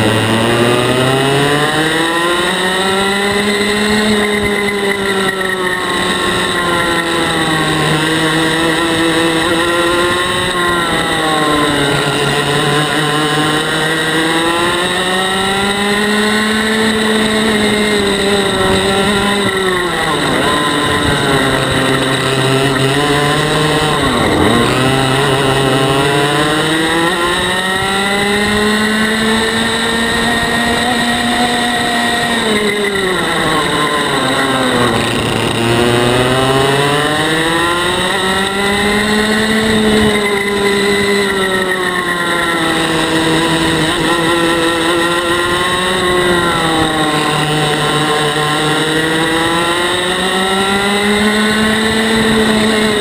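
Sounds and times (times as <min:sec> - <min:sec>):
two-stroke kart engine revving: 0:00.0 - 0:53.0.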